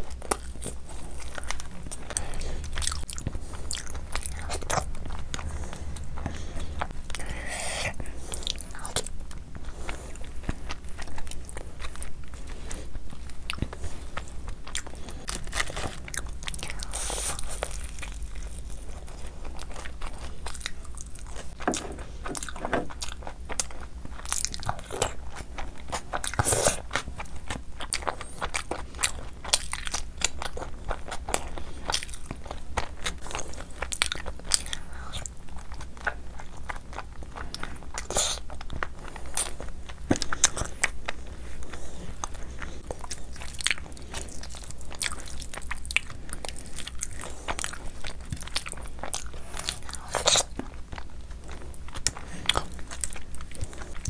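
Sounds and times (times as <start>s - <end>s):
person chewing with mouth smacks: 0.0s - 54.0s.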